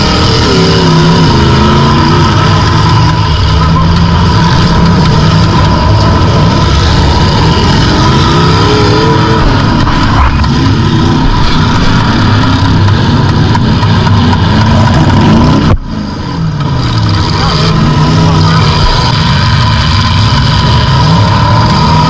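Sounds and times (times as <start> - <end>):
car engine revving loudly: 0.0 - 22.0.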